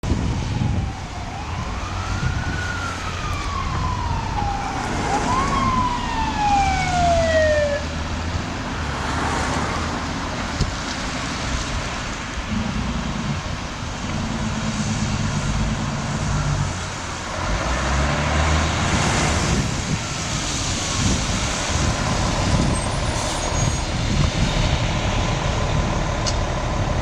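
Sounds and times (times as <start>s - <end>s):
fire engine siren wailing: 0.0s - 27.0s
truck engine and road noise: 0.0s - 27.0s.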